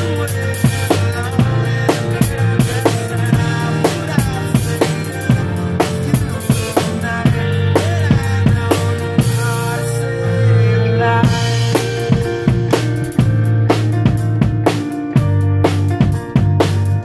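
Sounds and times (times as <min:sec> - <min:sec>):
drum kit beat: 0:00.0 - 0:17.0
recorded rock song: 0:00.0 - 0:17.0.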